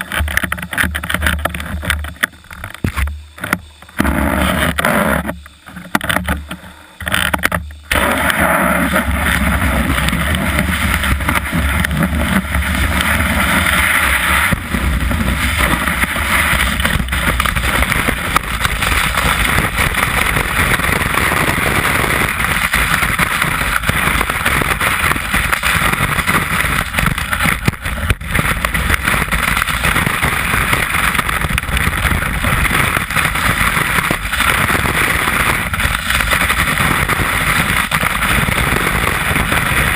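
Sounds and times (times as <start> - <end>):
wind noise: 0.0 - 39.9
snowboard scraping over snow: 4.0 - 5.4, 7.9 - 39.9.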